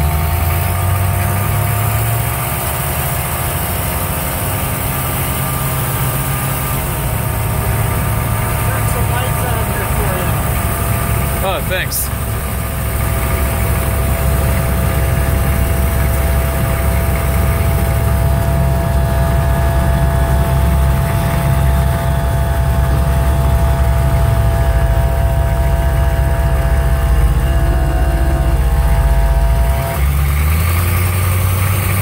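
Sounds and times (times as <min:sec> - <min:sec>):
constant whine: 0:00.0 - 0:32.0
diesel engine low drone: 0:00.0 - 0:32.0.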